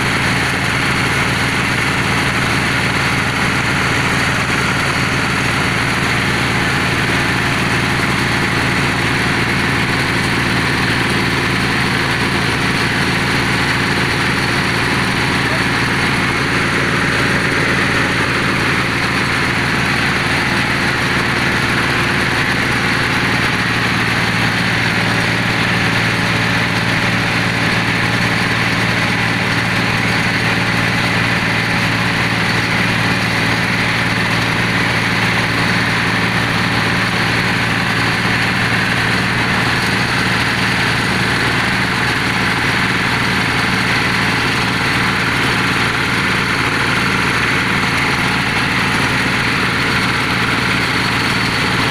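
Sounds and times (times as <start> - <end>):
drilling machine engine running: 0.0 - 51.9.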